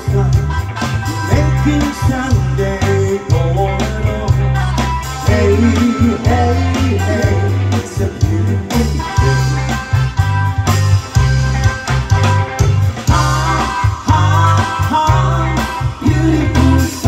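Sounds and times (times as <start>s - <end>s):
bass guitar: 0.0s - 17.0s
drums: 0.0s - 17.0s
electric guitars: 0.0s - 17.0s
keyboard: 0.0s - 17.0s.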